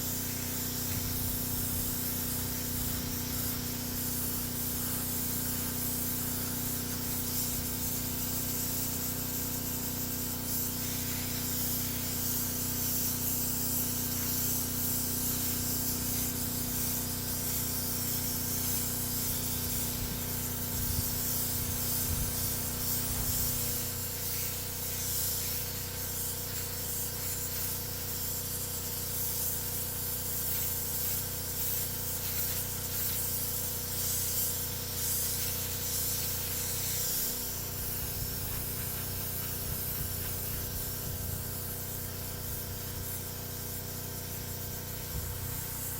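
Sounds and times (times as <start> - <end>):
paint spray gun hissing: 0.0 - 45.9.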